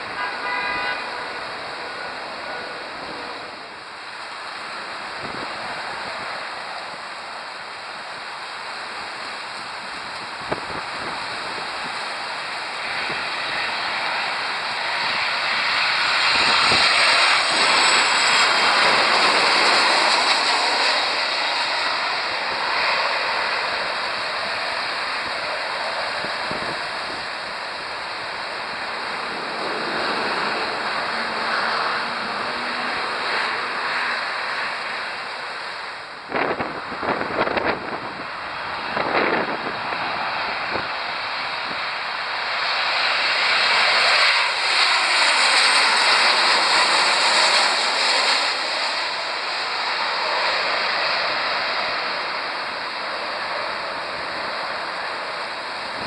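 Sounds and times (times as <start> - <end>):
high engine whine: 0.0 - 56.0
jet airliner flying overhead: 0.0 - 56.0.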